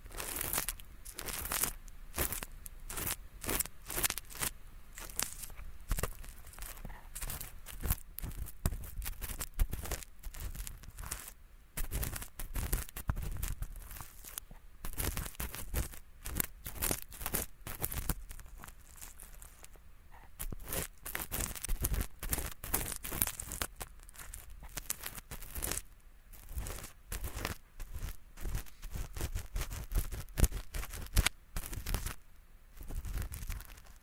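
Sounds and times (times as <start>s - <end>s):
ear-cleaning tool scratching: 0.0s - 19.8s, 20.4s - 32.2s, 32.8s - 34.0s.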